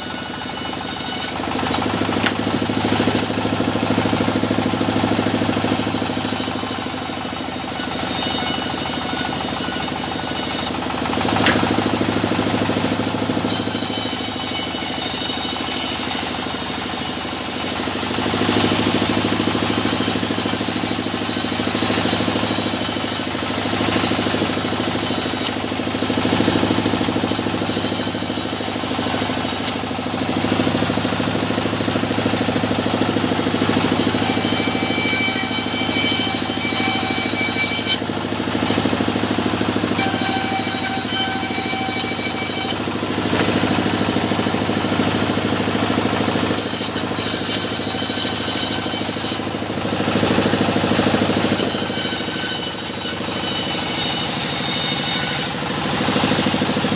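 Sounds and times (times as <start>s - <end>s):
harsh sawing noise: 0.0s - 56.9s
sawmill machinery humming: 0.0s - 56.9s.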